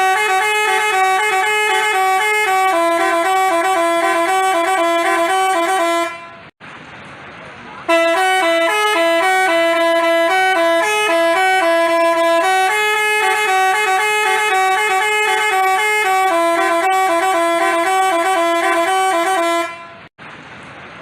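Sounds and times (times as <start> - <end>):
musical air horn playing tune: 0.0 - 6.5, 7.9 - 20.1.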